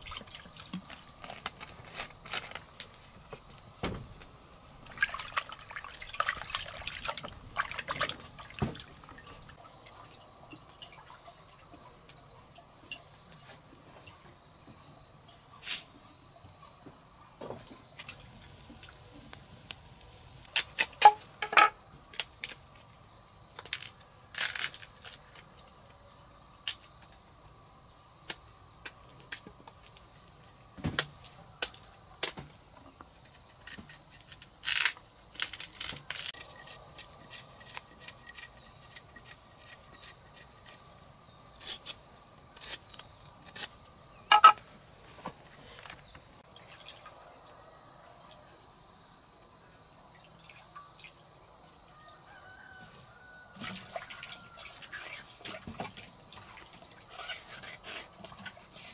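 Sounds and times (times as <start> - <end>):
insects chirring: 0.0 - 58.9.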